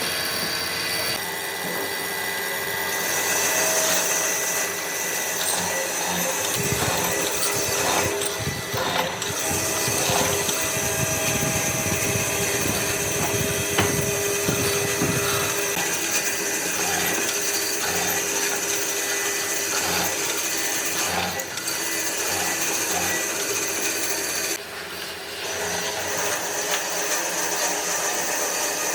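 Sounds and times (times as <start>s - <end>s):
power tool working wood: 0.0s - 28.9s.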